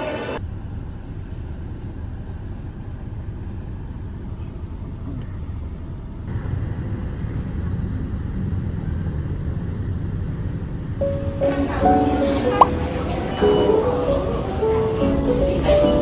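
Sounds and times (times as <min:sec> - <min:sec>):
vehicle rumbling: 0:00.0 - 0:16.0.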